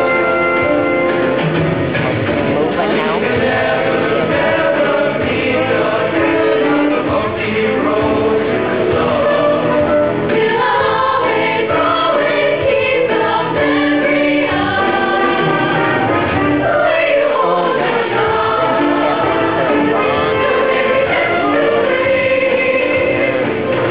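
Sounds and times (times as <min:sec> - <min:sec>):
choir singing in parts: 0:02.4 - 0:23.9.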